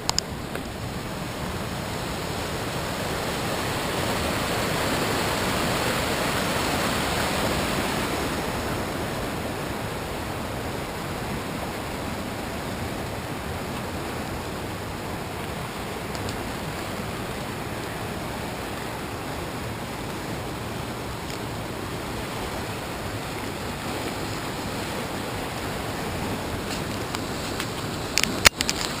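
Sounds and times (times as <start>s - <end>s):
small waterfall pouring: 0.0s - 29.0s.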